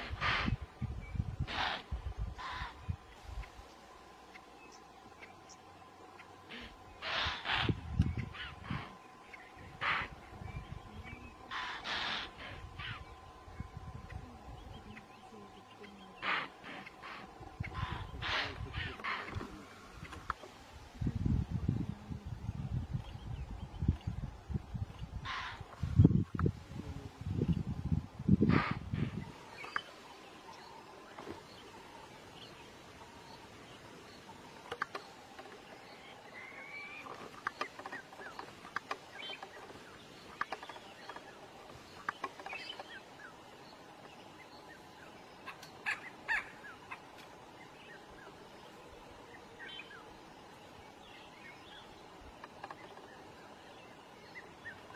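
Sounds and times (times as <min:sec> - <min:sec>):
birds chirping and whistling: 0:00.0 - 0:20.4, 0:28.3 - 0:54.9
faint steady hum: 0:00.0 - 0:54.9.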